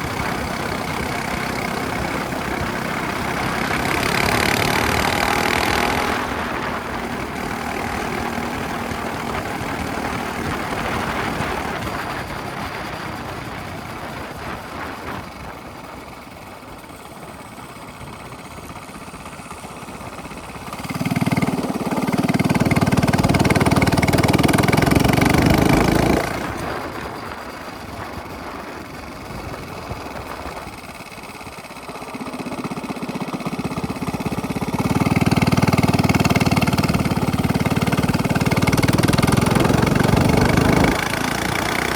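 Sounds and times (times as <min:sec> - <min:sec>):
minibike engine with straight-pipe exhaust: 0:00.0 - 0:41.9.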